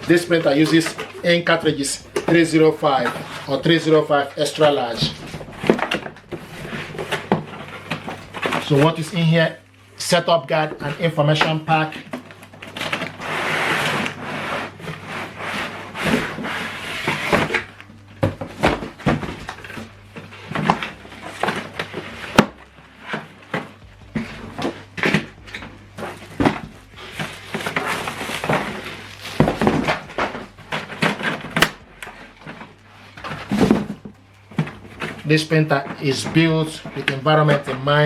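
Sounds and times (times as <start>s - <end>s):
packaging rustling: 0.0s - 38.0s.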